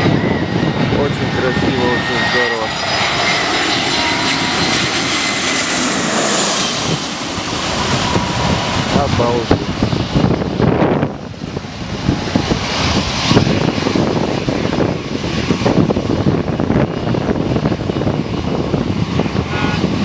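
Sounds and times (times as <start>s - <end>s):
airliner engines roaring overhead: 0.0s - 20.0s.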